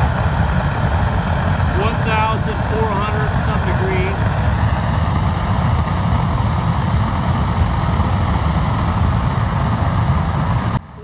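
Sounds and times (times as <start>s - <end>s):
pellet burner flame roaring: 0.0s - 11.0s.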